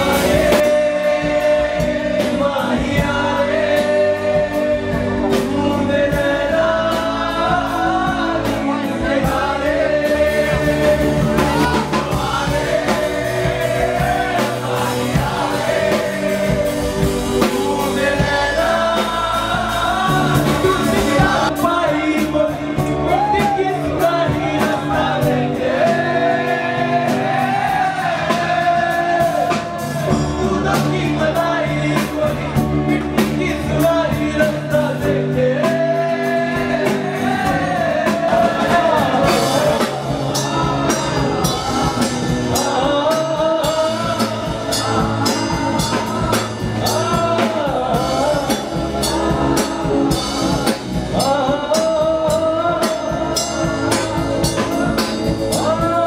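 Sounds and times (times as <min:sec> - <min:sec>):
drums and cymbals: 0:00.0 - 0:56.0
man singing: 0:00.0 - 0:56.0
rock band playing: 0:00.0 - 0:56.0.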